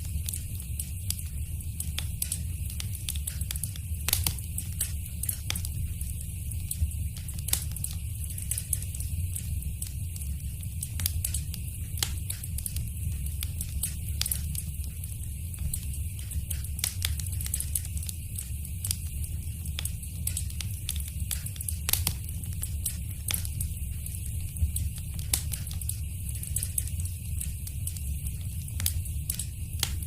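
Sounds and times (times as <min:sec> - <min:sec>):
low rumble of burning: 0:00.0 - 0:30.0
wood fire crackling and popping: 0:00.0 - 0:30.0.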